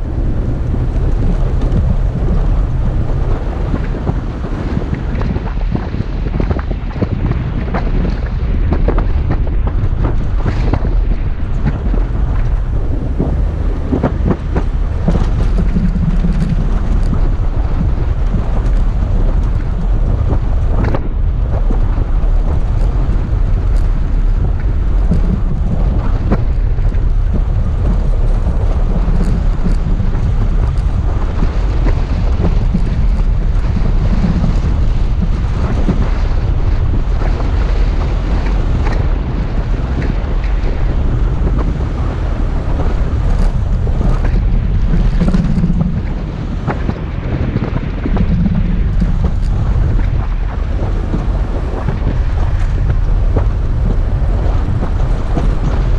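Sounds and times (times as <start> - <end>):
engine and tyres rumbling: 0.0 - 55.9
wind buffeting microphone: 0.0 - 55.9.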